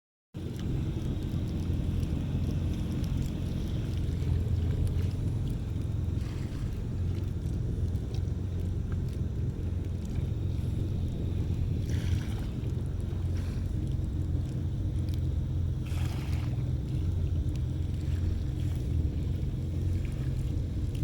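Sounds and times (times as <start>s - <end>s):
boat engine rumble: 0.3s - 21.0s
water splashes: 0.4s - 21.0s
wind buffeting microphone: 0.4s - 21.0s.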